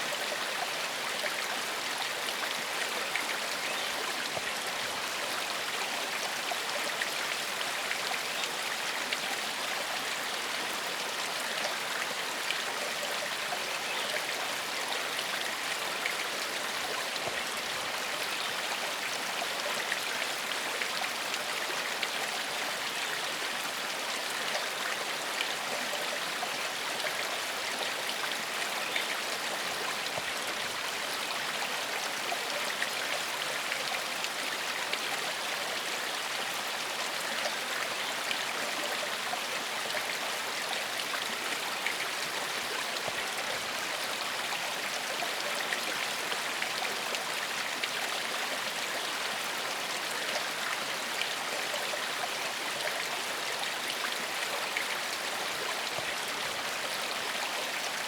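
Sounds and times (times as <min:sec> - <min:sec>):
forest stream flowing: 0:00.0 - 0:58.0.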